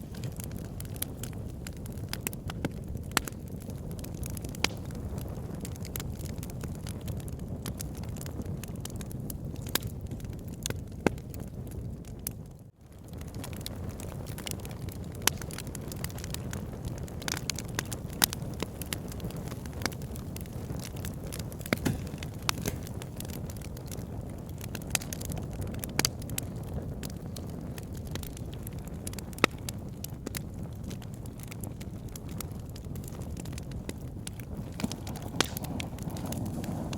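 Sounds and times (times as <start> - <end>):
logs crackling and popping: 0.0 - 36.9
low rumble of flames: 0.0 - 36.9.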